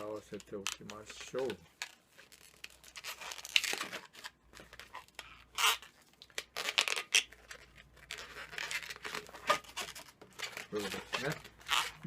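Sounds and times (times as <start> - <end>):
balloons rubbing and stretching: 0.0 - 12.0.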